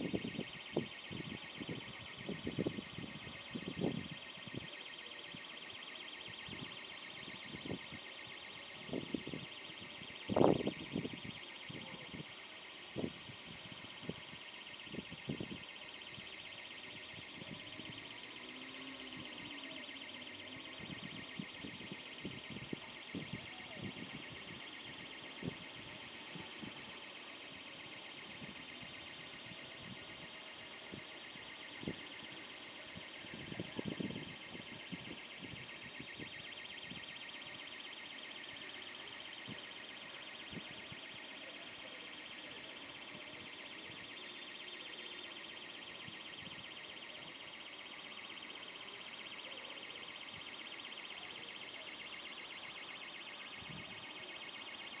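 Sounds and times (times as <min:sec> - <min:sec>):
car alarm warbling: 0:00.0 - 0:55.0.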